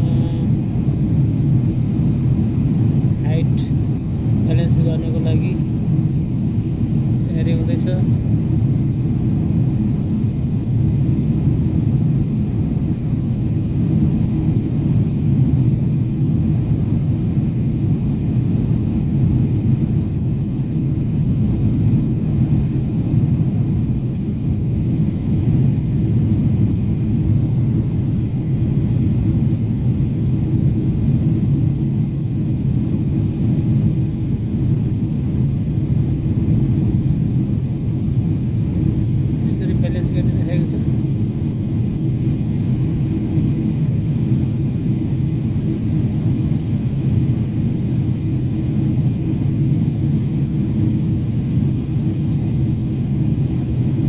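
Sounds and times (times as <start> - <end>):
faint constant hum: 0.0 - 54.0
jet engines rumbling: 0.0 - 54.0
rushing air: 0.0 - 54.0.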